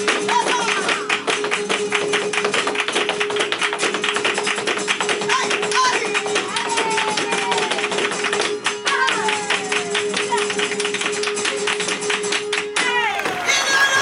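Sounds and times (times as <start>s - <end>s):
rapid dance footwork strikes: 0.0s - 13.9s
flamenco guitar: 0.0s - 14.0s.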